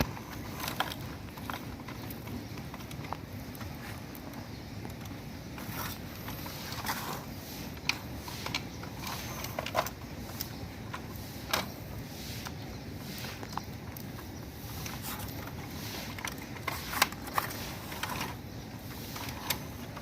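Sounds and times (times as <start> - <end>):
plastic scraping and clicking on sand: 0.0 - 20.0.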